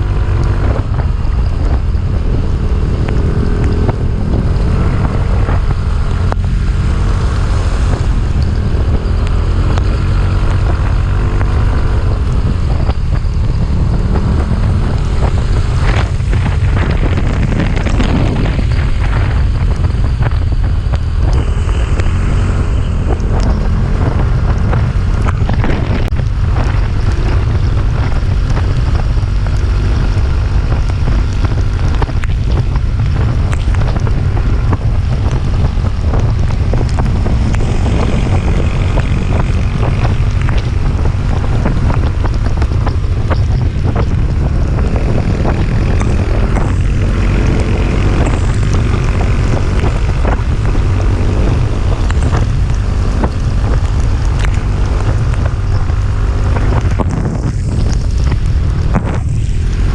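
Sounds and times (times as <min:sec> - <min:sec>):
motorcycle engine climbing uphill: 0:00.0 - 0:59.9
wind buffeting microphone: 0:00.0 - 0:59.9.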